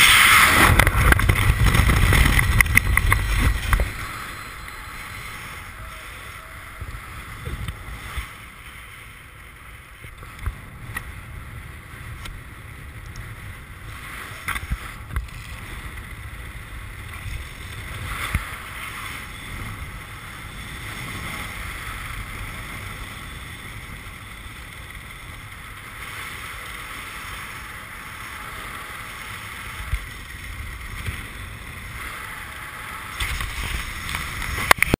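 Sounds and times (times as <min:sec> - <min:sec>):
wind buffeting camera: 0:00.0 - 0:34.9.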